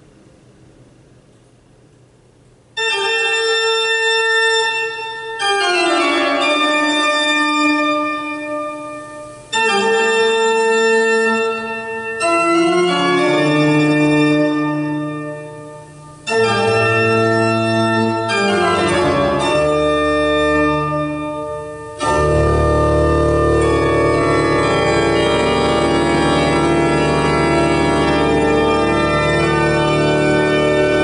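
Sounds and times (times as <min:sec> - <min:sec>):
organ music: 0:02.8 - 0:31.0.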